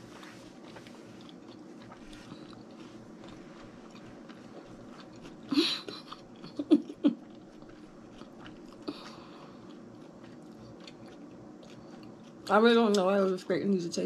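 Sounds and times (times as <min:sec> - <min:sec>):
wet chewing sounds: 0:00.0 - 0:13.4.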